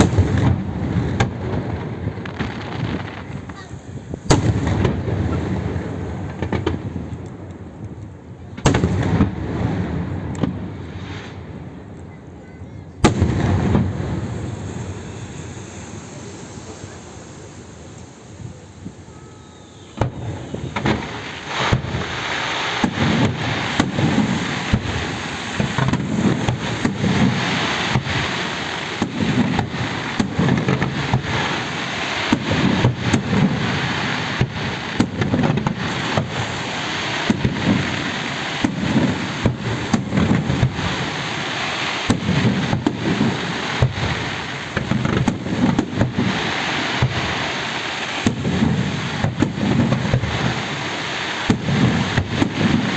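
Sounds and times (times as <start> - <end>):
fireworks bangs and booms: 0.0 - 52.9
fireworks crackling: 0.0 - 52.9.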